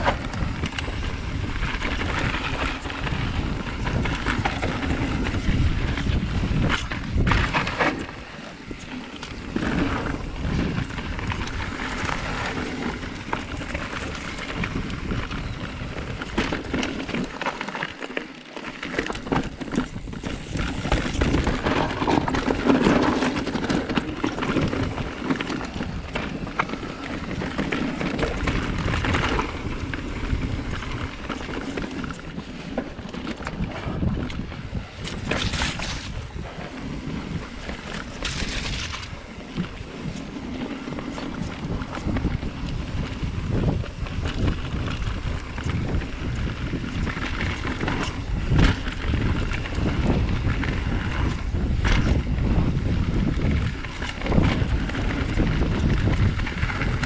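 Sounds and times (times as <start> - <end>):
wind buffeting microphone: 0.0 - 17.6, 18.7 - 57.0
bike rattling over bumps: 0.0 - 57.0
tyres crunching over dirt and rocks: 0.0 - 57.0.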